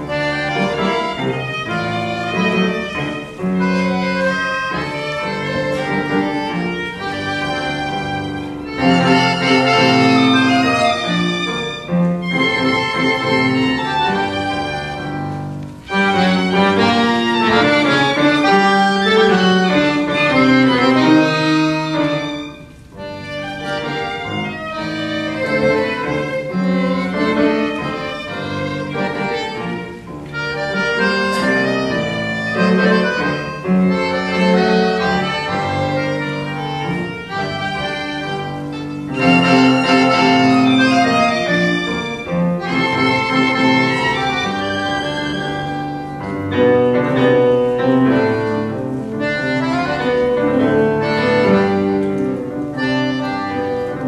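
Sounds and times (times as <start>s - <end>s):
accordion: 0.0s - 54.0s
violin melody: 0.0s - 54.0s.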